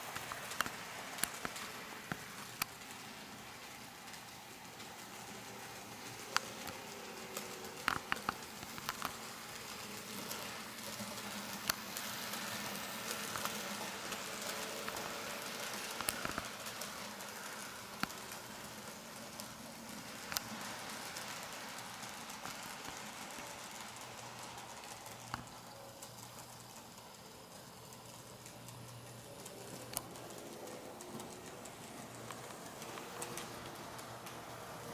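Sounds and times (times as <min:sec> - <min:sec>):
model train rolling hiss: 0:00.0 - 0:34.9
wheels clicking on track: 0:00.0 - 0:34.9.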